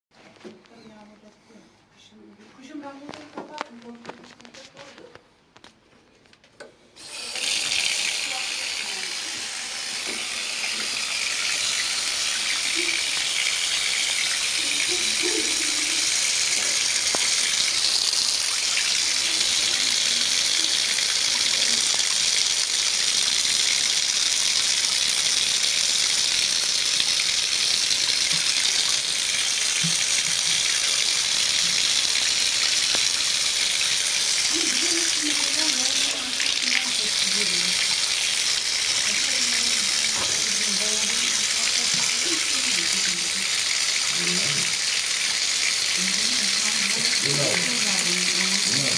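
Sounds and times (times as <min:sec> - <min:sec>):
water running from a tap: 0:07.0 - 0:48.9.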